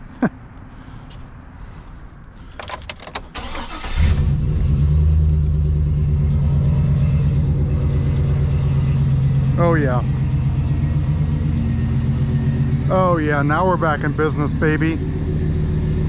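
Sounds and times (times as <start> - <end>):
engine cranking and idling: 2.3 - 16.0.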